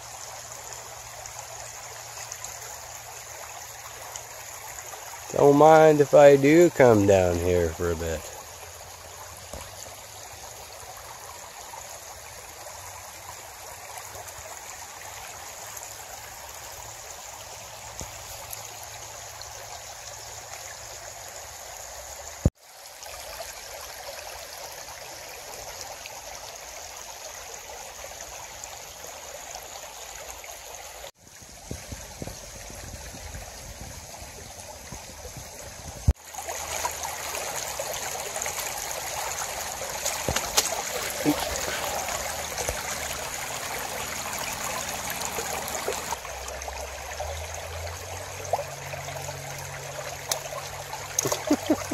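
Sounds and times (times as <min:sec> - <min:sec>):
creek babbling over stones: 0:00.0 - 0:51.9.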